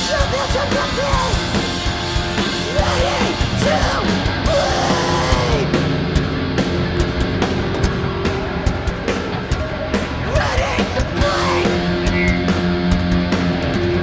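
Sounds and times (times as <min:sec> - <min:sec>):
punk band playing live: 0:00.0 - 0:14.0.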